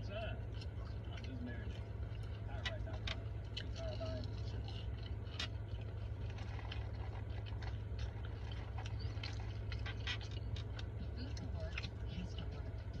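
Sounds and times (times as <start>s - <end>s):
low hum: 0.0s - 13.0s
person chewing food: 0.0s - 13.0s.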